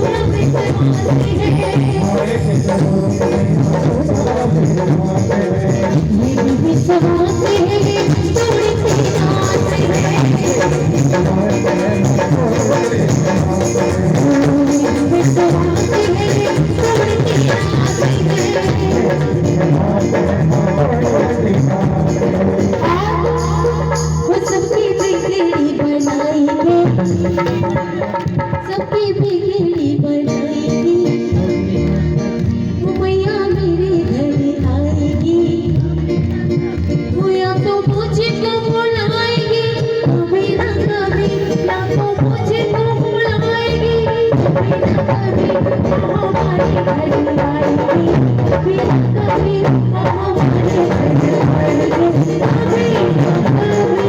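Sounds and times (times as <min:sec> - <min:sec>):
rattle-like percussion: 0:00.0 - 0:30.0, 0:30.7 - 0:54.0
devotional music with drum: 0:00.0 - 0:54.0.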